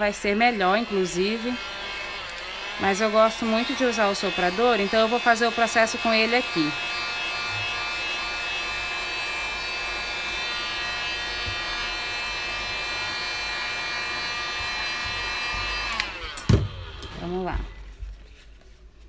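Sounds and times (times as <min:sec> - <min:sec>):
heat gun motor whine: 0:00.0 - 0:17.7.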